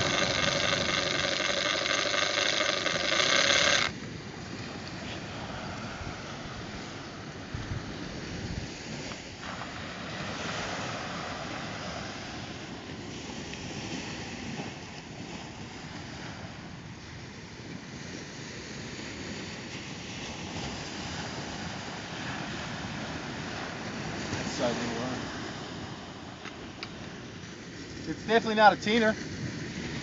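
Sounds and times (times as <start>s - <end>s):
surf breaking on beach: 0.0s - 16.7s, 19.1s - 26.8s
wind rumbling on microphone: 0.0s - 30.0s.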